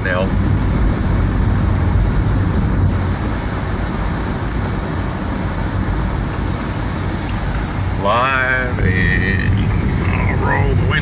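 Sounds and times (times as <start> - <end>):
rain on car: 0.0 - 11.0
road and tyre noise in car: 0.0 - 11.0.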